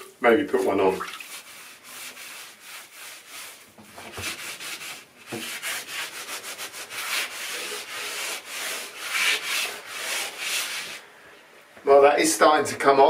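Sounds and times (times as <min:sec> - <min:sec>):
sponge scrubbing ceiling: 0:00.2 - 0:11.1.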